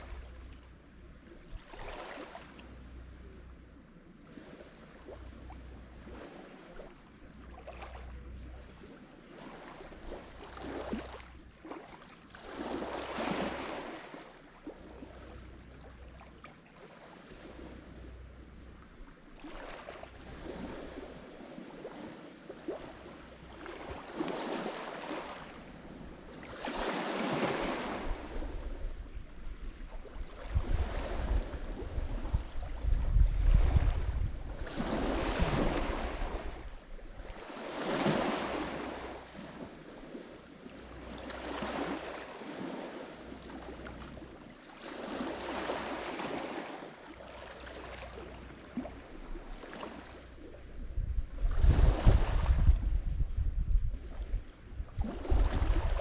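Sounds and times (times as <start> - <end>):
waves breaking on shore: 0.0 - 3.4, 4.2 - 56.0.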